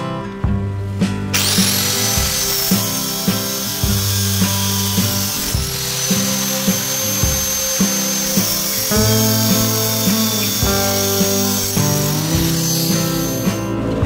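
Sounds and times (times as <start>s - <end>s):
background music with beat: 0.0s - 14.0s
power tool whining: 1.3s - 14.0s.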